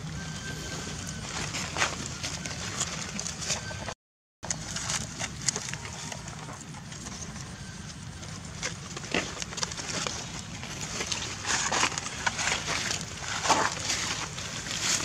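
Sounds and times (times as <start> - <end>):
dry leaves rustling and clicking: 0.0 - 15.0
low outdoor rumble: 0.0 - 15.0.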